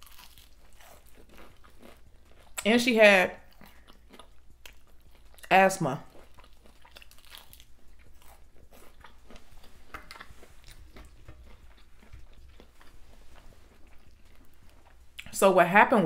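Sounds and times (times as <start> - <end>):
chewing crunchy food: 0.0 - 15.4.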